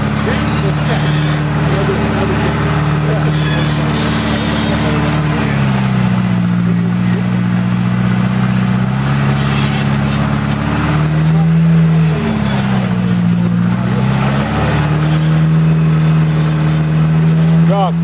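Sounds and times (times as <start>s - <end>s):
buggy engine working under load: 0.0s - 18.0s.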